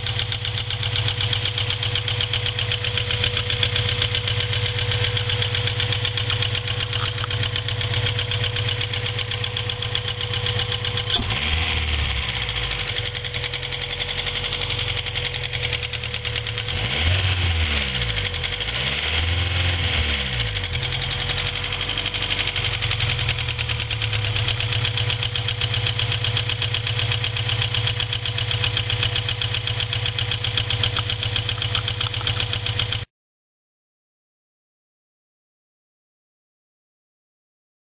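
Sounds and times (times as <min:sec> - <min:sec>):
car engine revving: 0:00.0 - 0:32.8
car engine idling with ticking: 0:00.0 - 0:33.1.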